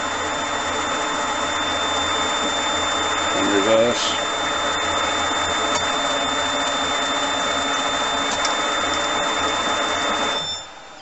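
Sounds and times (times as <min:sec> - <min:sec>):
high-pitched whine: 0:00.0 - 0:11.0
lathe running: 0:00.0 - 0:11.0.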